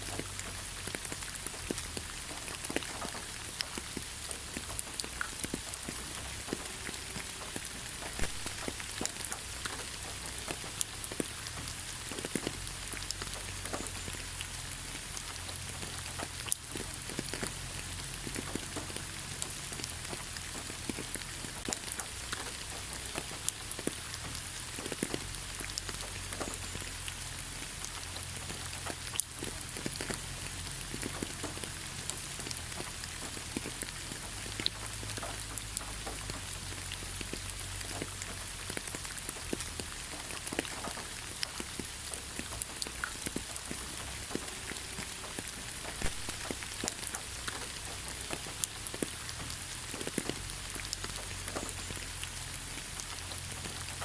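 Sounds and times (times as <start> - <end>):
raindrops ticking: 0.0 - 54.0
steady rain falling: 0.0 - 54.0.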